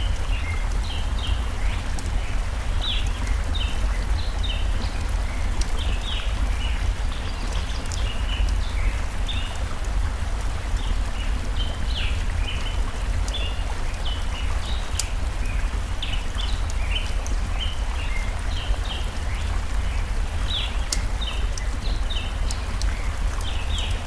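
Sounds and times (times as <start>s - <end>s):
songbirds chirping: 0.0s - 24.0s
stream rushing: 0.0s - 24.0s
wood fire crackles: 0.0s - 24.0s.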